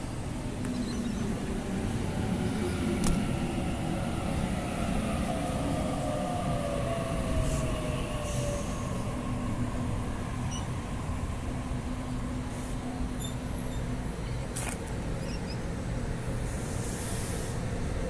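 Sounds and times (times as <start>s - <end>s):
train car steady hum: 0.0s - 18.0s.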